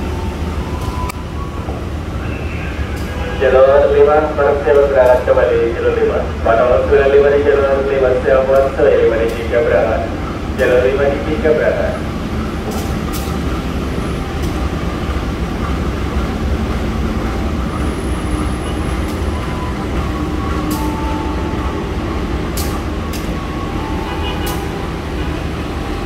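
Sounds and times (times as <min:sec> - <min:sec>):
locomotive engine idling: 0:00.0 - 0:26.0.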